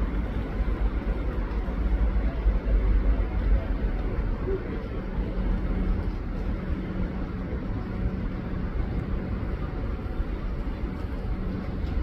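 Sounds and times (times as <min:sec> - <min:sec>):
steady low hum: 0:00.0 - 0:12.0
train rumbling: 0:00.0 - 0:12.0.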